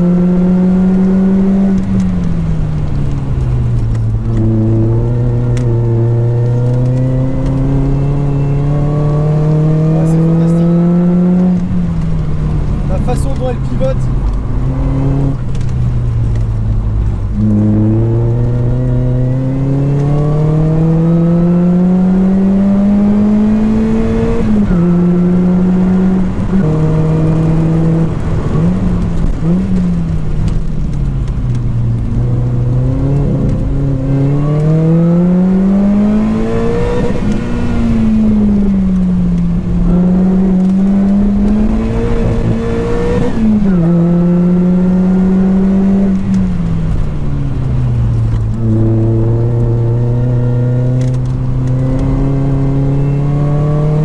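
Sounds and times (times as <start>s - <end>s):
car engine revving on track: 0.0s - 54.0s.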